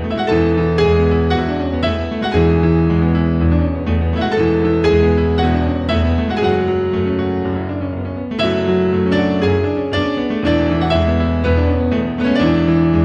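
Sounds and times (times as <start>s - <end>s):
piano background music: 0.0s - 13.0s.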